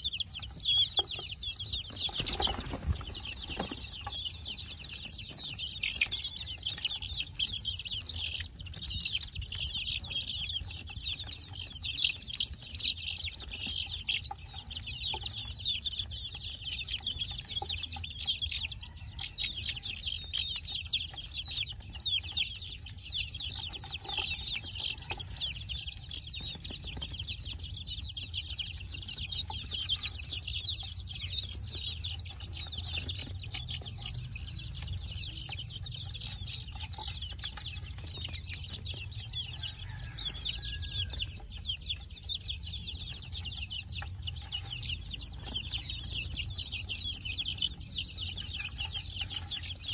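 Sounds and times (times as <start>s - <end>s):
chicks peeping: 0.0s - 49.9s.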